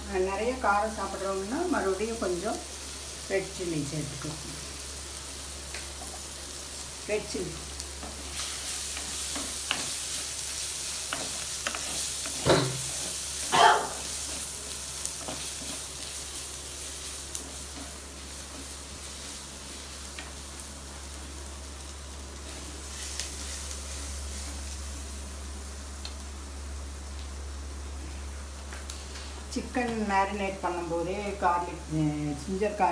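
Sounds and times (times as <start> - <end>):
food sizzling in a pot: 0.0 - 32.9.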